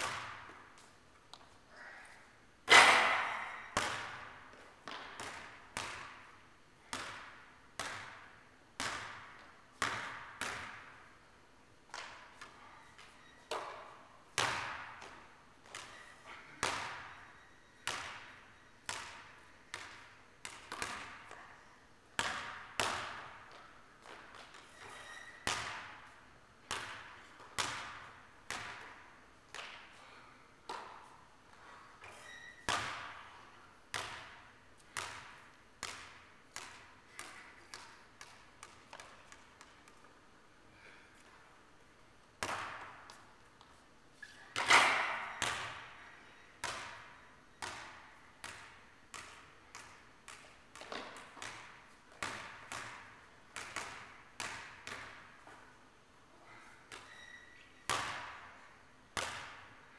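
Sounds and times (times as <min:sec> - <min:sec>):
basketball bouncing on gym floor: 0:00.0 - 0:01.5, 0:02.7 - 0:11.0, 0:11.9 - 0:21.5, 0:22.1 - 0:40.1, 0:42.4 - 0:46.0, 0:46.6 - 0:55.7, 0:56.9 - 0:58.6, 0:59.2 - 0:59.8.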